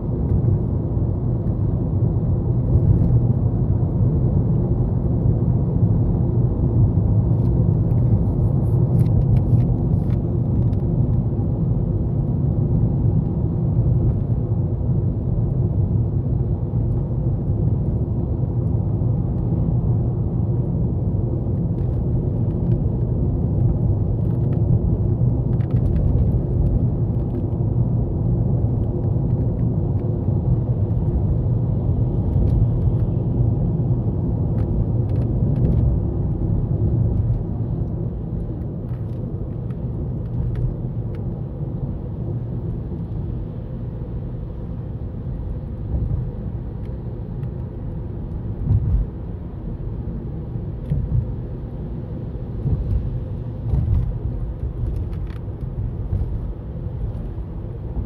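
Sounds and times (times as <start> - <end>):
low rumble inside vehicle cabin: 0.0 - 58.0.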